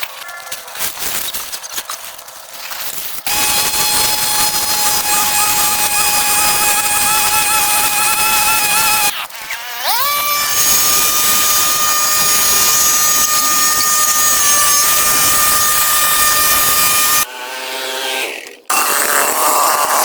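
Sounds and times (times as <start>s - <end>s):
two-stroke power tool engine revving: 3.3s - 20.0s.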